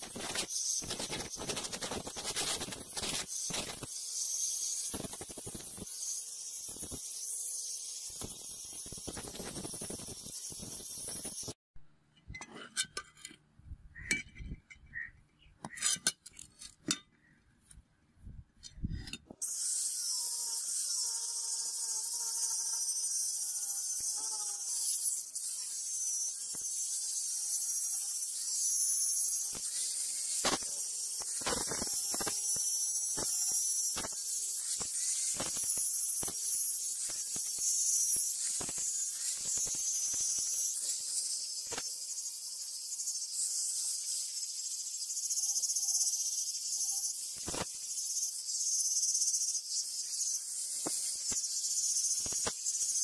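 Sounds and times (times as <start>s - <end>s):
angle grinder sanding metal: 0.0s - 11.6s, 19.4s - 53.0s.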